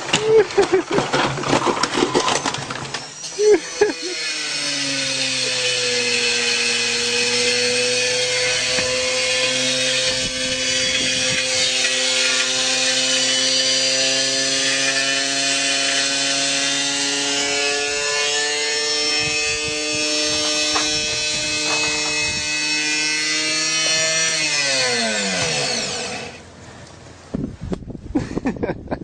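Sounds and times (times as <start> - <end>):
grinding and rattling: 0.0 - 26.5.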